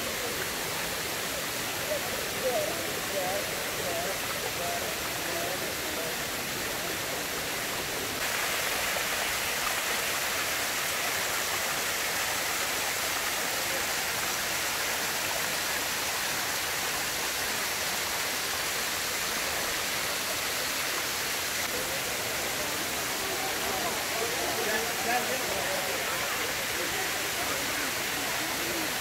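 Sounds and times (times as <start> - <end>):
waterfall rushing splash: 0.0 - 29.0.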